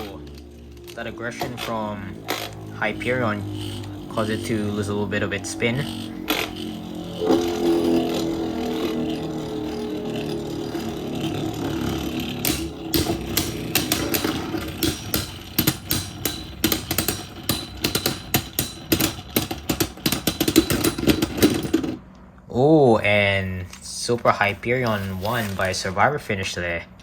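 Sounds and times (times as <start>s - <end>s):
spinning tops whirring: 0.0s - 22.0s
tops clicking and clacking: 0.0s - 22.3s.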